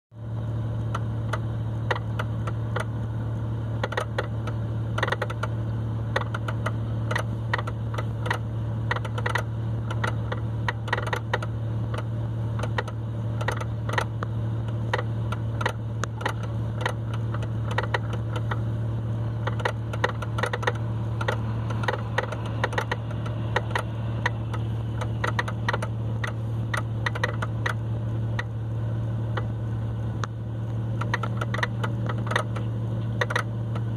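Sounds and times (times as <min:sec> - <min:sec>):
engine idling hum in car cabin: 0:00.1 - 0:33.9.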